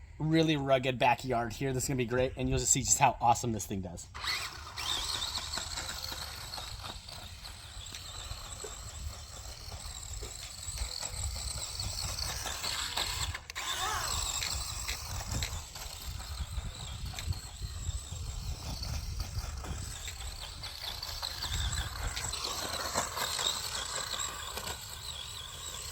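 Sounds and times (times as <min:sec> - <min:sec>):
chassis and tyres rattling: 0:04.1 - 0:25.9
rc car motor whine: 0:04.1 - 0:25.9.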